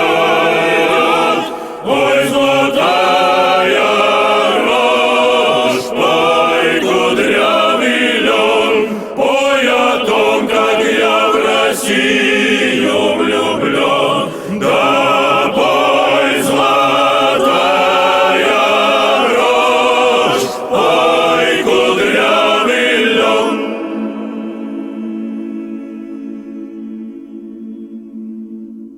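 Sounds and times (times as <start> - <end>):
choir singing in harmony: 0.0 - 28.9.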